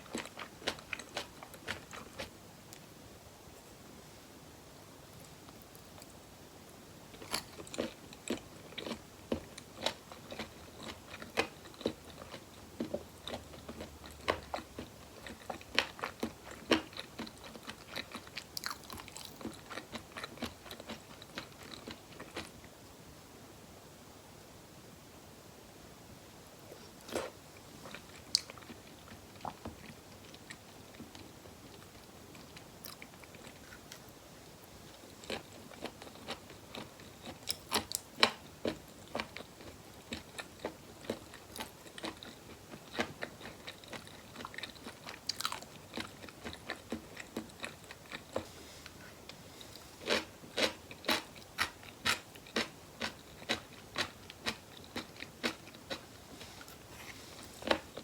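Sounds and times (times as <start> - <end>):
person chewing crunchy food: 0.0 - 2.3, 7.1 - 22.5, 26.7 - 34.1, 35.0 - 58.0.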